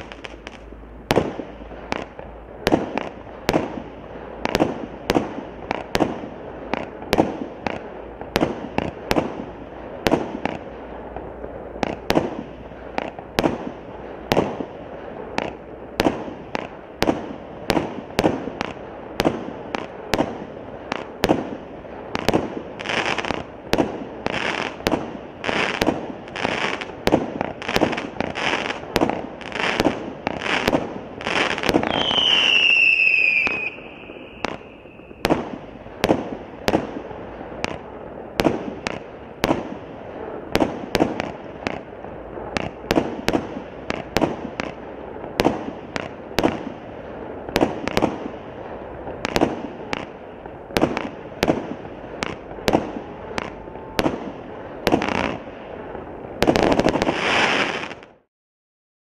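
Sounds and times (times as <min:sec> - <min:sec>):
fireworks shots and bursts: 0:00.0 - 0:58.3.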